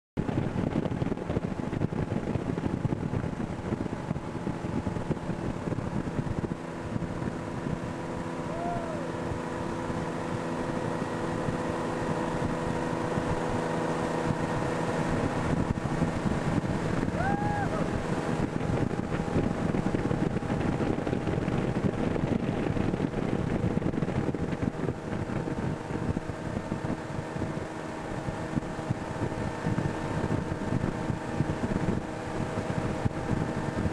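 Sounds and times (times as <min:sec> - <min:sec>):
boat engine running: 0:00.2 - 0:33.9
wind buffeting microphone: 0:00.2 - 0:33.9
water rushing: 0:03.2 - 0:33.9.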